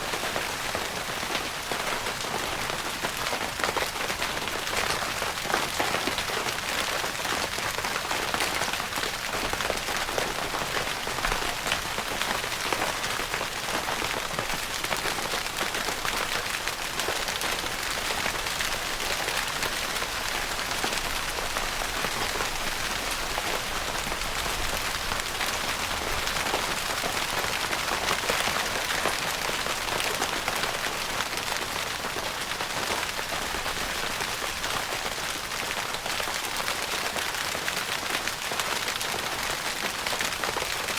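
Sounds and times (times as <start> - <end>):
rain pattering on tent fabric: 0.0 - 40.9.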